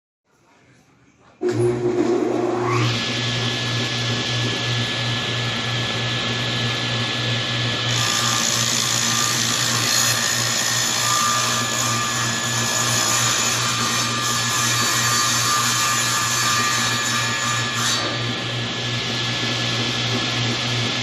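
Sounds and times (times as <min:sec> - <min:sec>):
table saw motor hum: 0:01.4 - 0:21.0.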